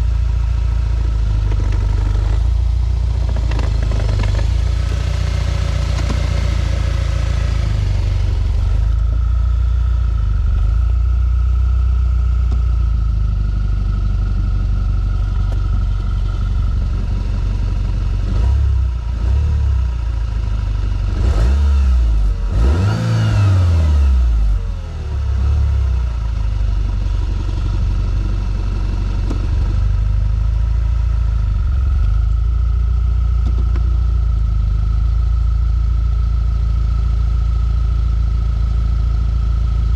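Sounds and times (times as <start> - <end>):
car engine running and revving: 0.0 - 39.9.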